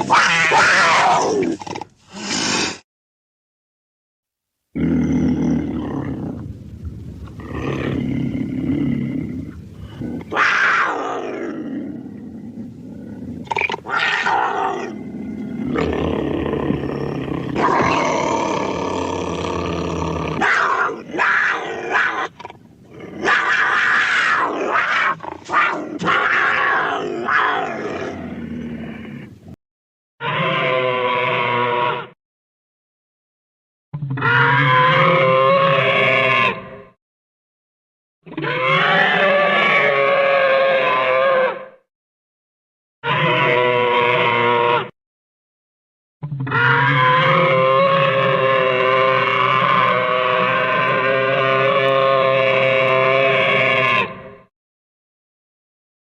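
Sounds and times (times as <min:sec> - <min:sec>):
dinosaur roars and growls: 0:00.0 - 0:02.8, 0:04.7 - 0:29.5, 0:30.2 - 0:32.2, 0:34.0 - 0:37.0, 0:38.2 - 0:41.8, 0:43.0 - 0:44.9, 0:46.2 - 0:54.5.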